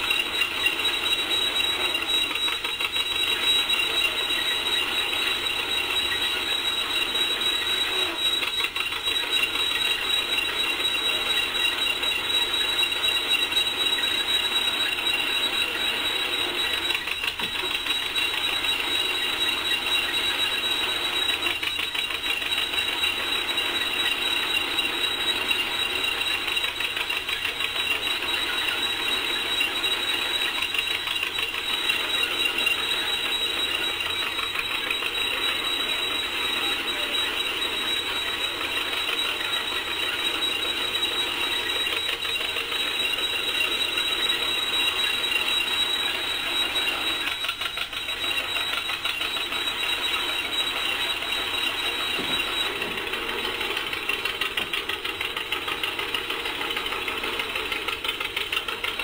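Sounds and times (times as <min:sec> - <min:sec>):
threshing machine clatter: 0:00.0 - 0:59.0
two-cylinder engine popping: 0:00.0 - 0:59.0.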